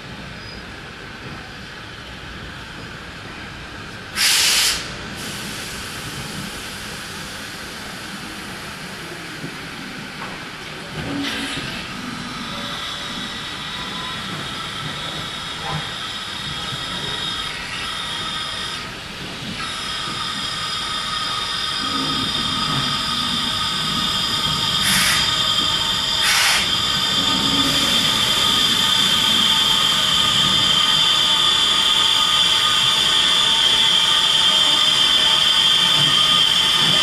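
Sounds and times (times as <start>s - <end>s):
steam locomotive hissing and whining: 0.4s - 37.0s
sharp steam hisses: 4.1s - 9.1s, 11.1s - 37.0s.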